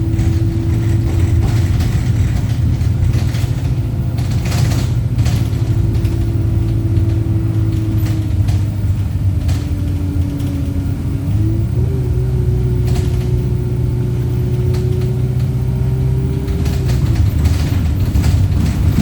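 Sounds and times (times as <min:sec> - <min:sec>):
bus body rattles: 0:00.0 - 0:19.0
diesel engine drone: 0:00.0 - 0:19.0
engine whine: 0:00.0 - 0:19.0.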